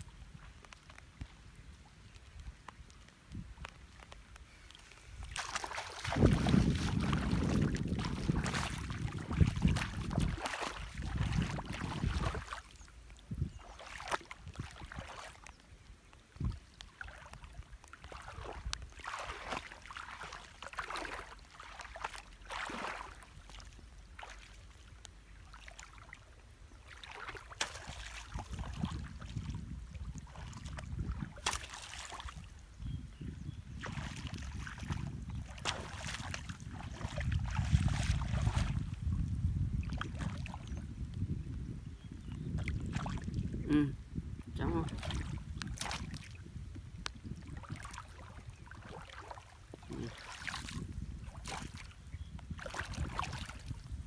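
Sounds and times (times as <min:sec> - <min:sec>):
wind rumble on microphone: 0:00.0 - 0:15.8, 0:16.4 - 0:20.3, 0:27.3 - 0:54.0
water splashing and sloshing: 0:00.0 - 0:41.3, 0:42.2 - 0:54.0.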